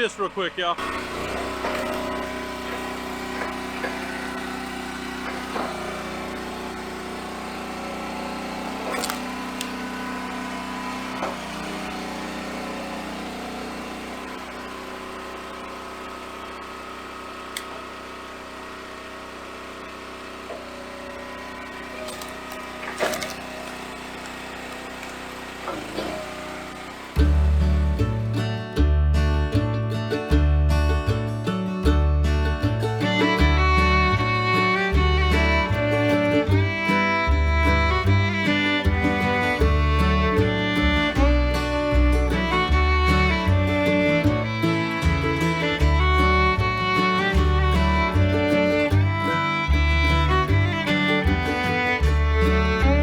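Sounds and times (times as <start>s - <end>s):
log splitter engine running: 0.0s - 53.0s.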